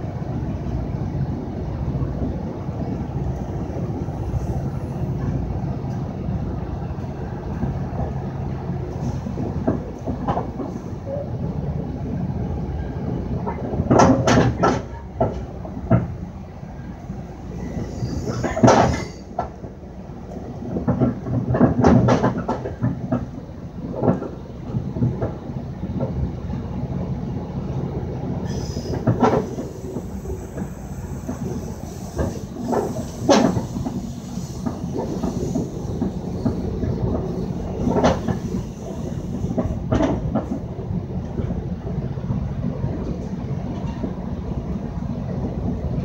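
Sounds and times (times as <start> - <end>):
freight train passing: 0.0 - 46.0
train rumbling: 0.0 - 46.0
wheels clacking over rail joints: 7.0 - 11.4, 12.8 - 27.0, 27.6 - 46.0.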